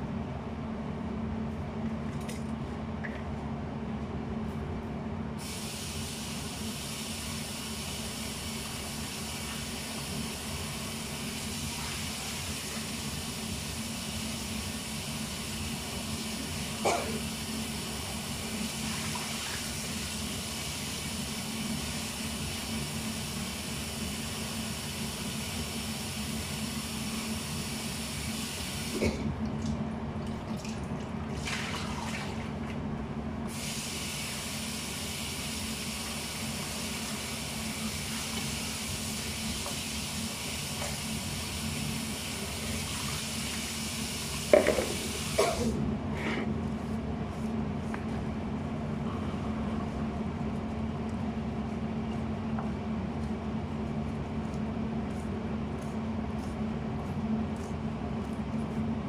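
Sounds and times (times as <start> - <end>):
steady low hum: 0.0 - 33.6, 43.8 - 59.0.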